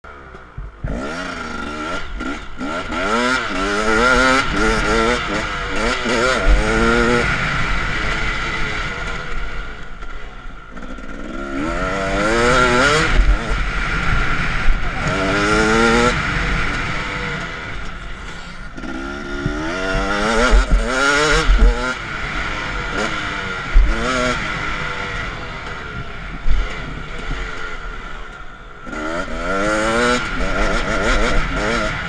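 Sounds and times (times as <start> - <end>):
motocross bike engine revving: 0.1 - 32.0.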